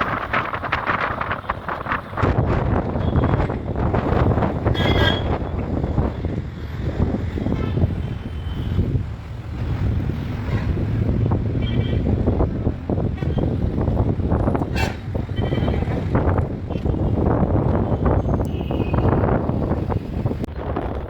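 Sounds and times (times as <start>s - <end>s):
road traffic rumble: 0.0s - 21.0s
wind buffeting microphone: 0.0s - 21.0s.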